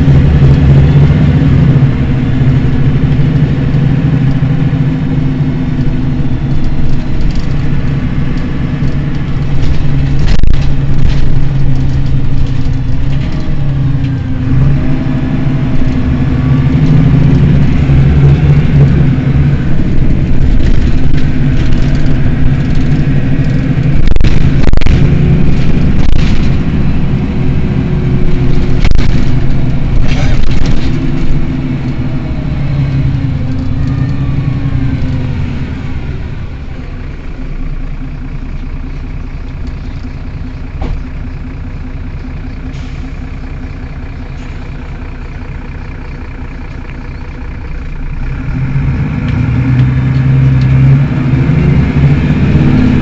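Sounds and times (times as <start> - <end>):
bus engine idling: 0.0 - 53.0.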